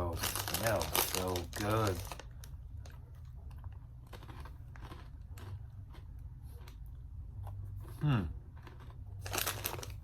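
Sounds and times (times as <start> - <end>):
low steady hum: 0.0 - 10.0
person chewing crunchy food: 0.1 - 10.0.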